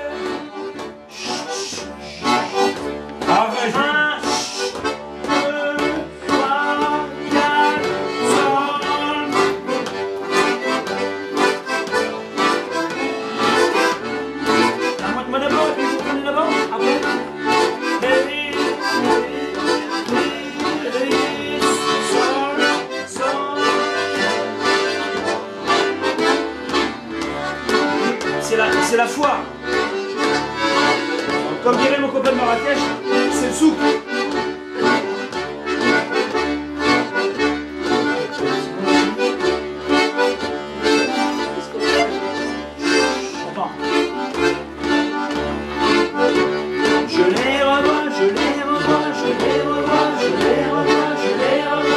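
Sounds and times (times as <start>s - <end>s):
accordion playing: 0.0s - 51.9s.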